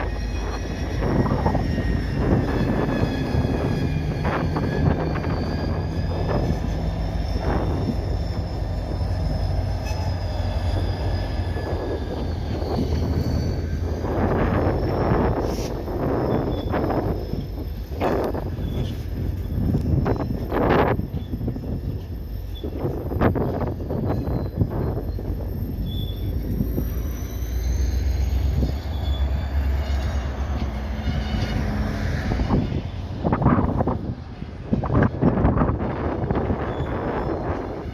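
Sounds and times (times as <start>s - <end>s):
diesel locomotive rumble: 0.0s - 37.9s
steel wheels squealing on rails: 0.0s - 37.9s.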